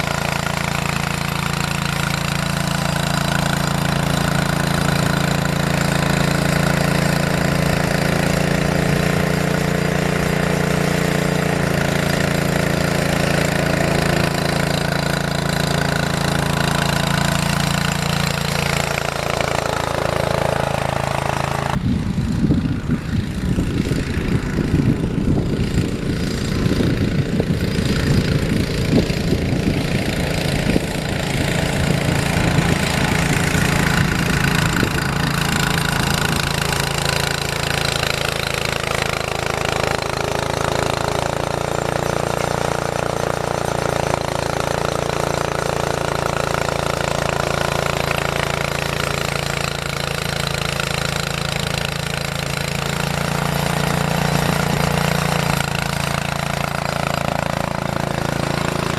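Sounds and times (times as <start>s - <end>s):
snow-clearing machine engine: 0.0s - 58.9s.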